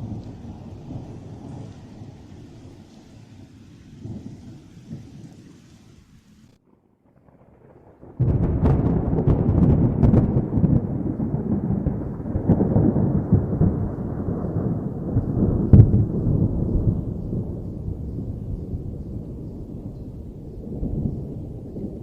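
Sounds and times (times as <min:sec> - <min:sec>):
thunder crack and rumble: 0:00.0 - 0:05.8, 0:06.6 - 0:22.0.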